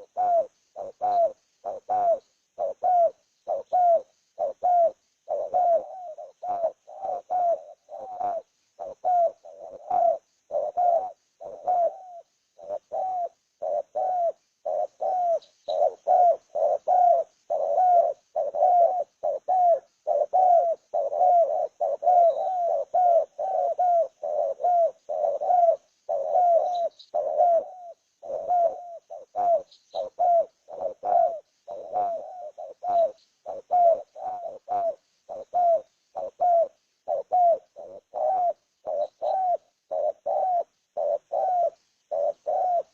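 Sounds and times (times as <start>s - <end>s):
bird cooing: 0.0s - 42.9s
faint high bird chirps: 0.0s - 42.9s.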